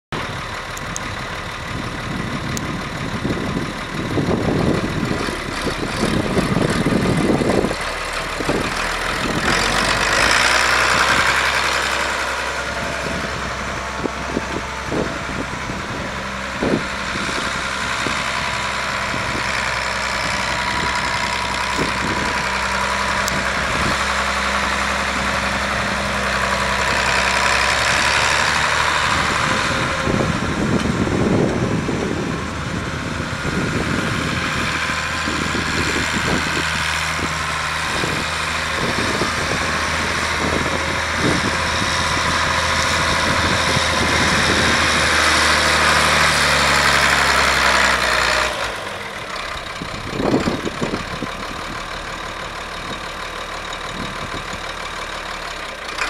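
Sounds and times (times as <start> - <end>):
tractor diesel engine running: 0.1 - 56.0.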